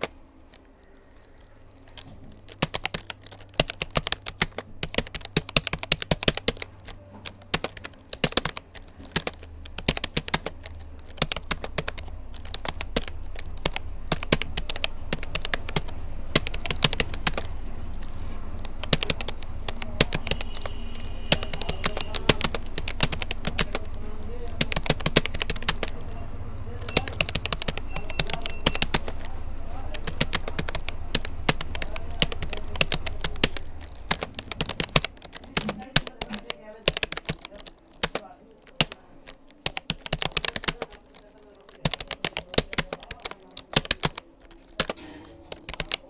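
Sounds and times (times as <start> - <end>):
low steady hum: 0.0 - 41.7
keyboard key clicks: 0.0 - 46.0.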